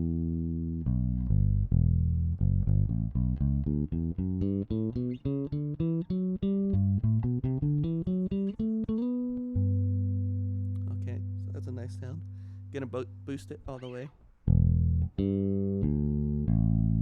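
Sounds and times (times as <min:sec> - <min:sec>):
plucked electric bass line: 0:00.0 - 0:13.9, 0:14.5 - 0:17.0.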